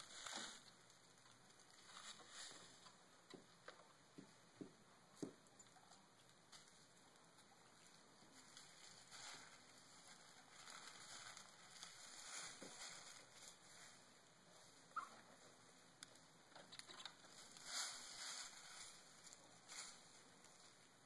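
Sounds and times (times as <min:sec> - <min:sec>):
faint rustle: 0:00.0 - 0:03.1, 0:05.9 - 0:21.0.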